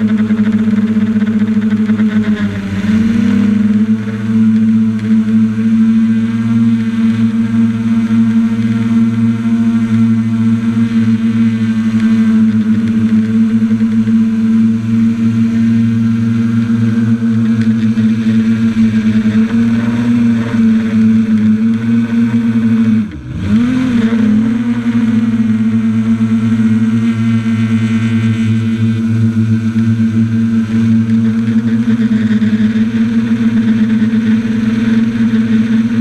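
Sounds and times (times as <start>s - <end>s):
drone propellers buzzing: 0.0s - 36.0s.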